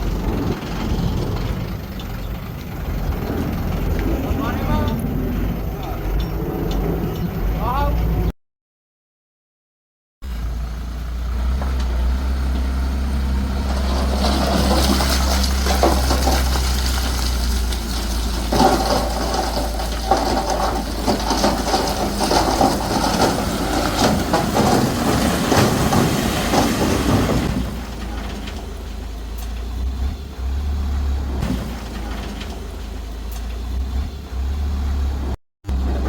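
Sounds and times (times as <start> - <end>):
soil crunching and rushing: 0.0 - 7.5, 11.3 - 36.0
diesel engine running: 0.0 - 8.3, 10.2 - 36.0.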